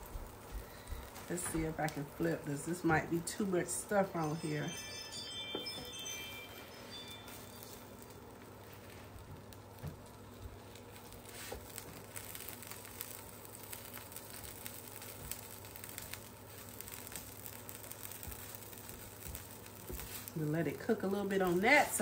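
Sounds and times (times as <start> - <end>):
tortilla sizzling on griddle: 0.0 - 22.0.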